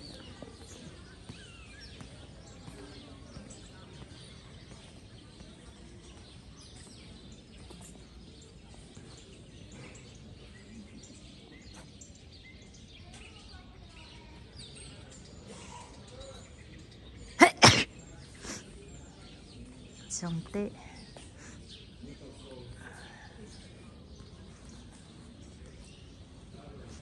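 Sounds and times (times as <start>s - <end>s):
faint distant voices: 0.0s - 27.0s
small birds chirping: 0.0s - 27.0s.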